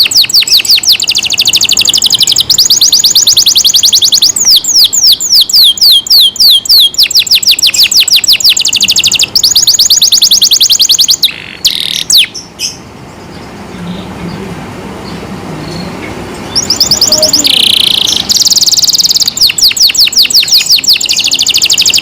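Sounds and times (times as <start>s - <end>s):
canary singing trills: 0.0s - 14.4s, 15.0s - 22.0s.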